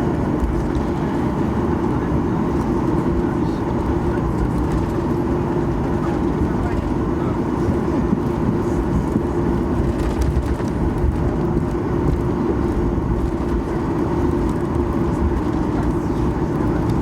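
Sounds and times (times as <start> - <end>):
aircraft cabin hum: 0.0 - 17.0.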